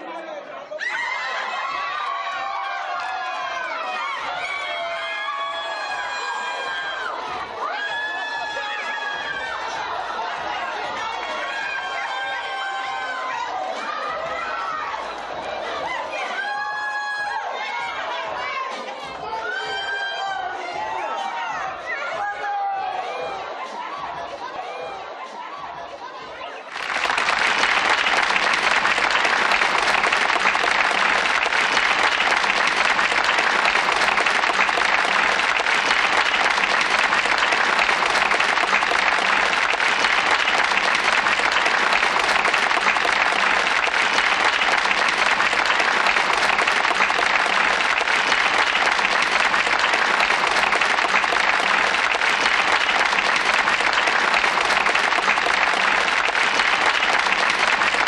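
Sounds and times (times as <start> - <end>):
crowd applauding: 0.8 - 18.6, 26.7 - 58.0.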